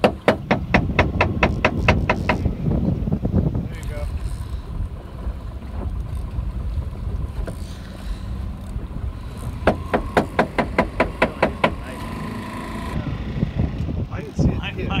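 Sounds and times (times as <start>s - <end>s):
boat motor rumble: 0.0s - 15.0s
water: 0.0s - 15.0s.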